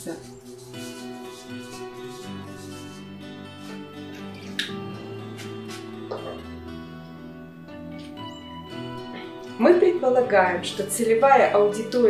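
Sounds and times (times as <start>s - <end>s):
soft acoustic instrumental music: 0.0s - 12.0s.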